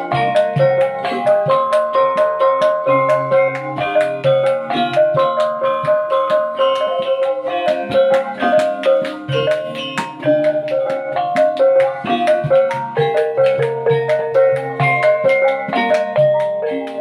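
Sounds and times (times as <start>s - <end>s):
ringing metallophone keys: 0.0s - 17.0s.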